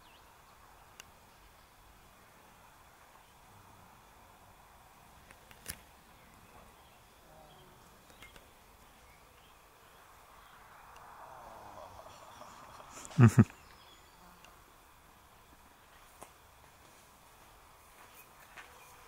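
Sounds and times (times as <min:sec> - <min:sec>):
faint insect buzz: 0:00.0 - 0:19.0
soft hiss: 0:00.0 - 0:19.0.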